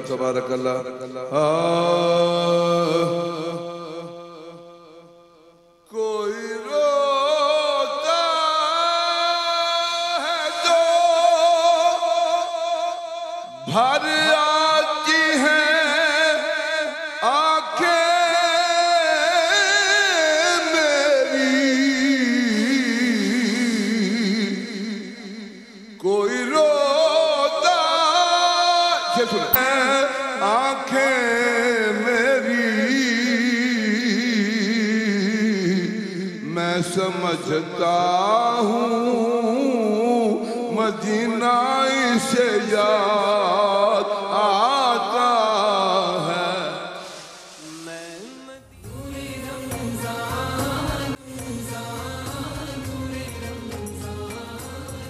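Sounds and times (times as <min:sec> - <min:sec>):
man singing ornamented melody: 0:00.0 - 0:55.0.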